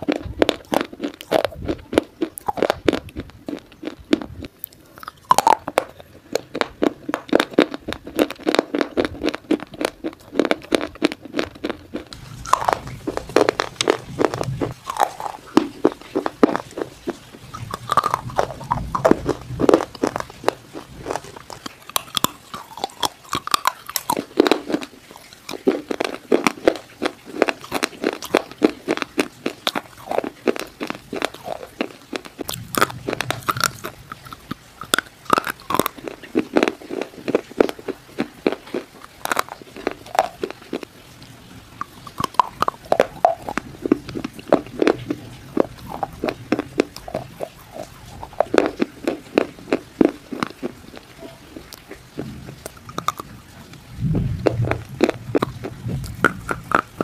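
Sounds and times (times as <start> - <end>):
chewing hard clay-stone: 0.0 - 57.0.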